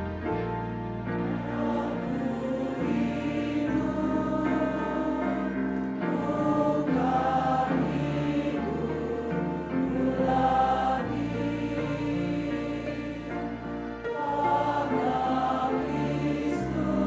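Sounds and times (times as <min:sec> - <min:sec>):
choir singing a hymn: 0:00.0 - 0:17.0.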